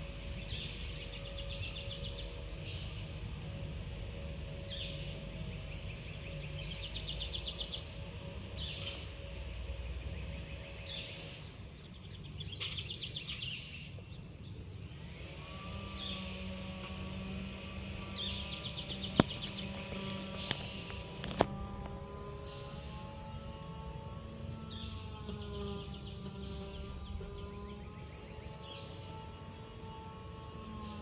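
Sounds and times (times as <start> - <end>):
low outdoor rumble: 0.0 - 31.0
songbird buzzy trills: 0.0 - 31.0.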